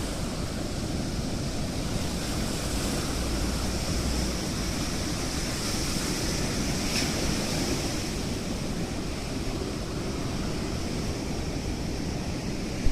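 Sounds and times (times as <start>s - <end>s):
rough water: 0.0s - 12.9s.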